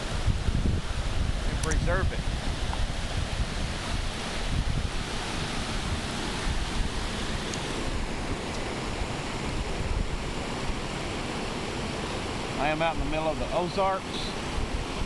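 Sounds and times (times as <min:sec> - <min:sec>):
flowing creek: 0:00.0 - 0:15.0
wind buffeting microphone: 0:00.0 - 0:15.0.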